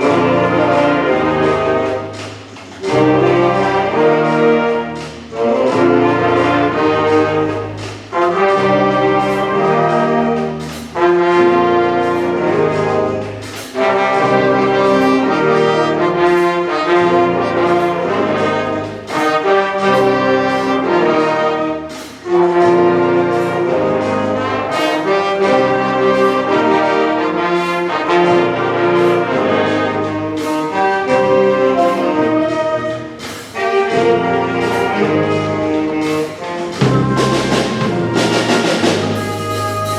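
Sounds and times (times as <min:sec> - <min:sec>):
sharp percussion hits: 0:00.0 - 0:39.9
wind band playing brass music: 0:00.0 - 0:39.9.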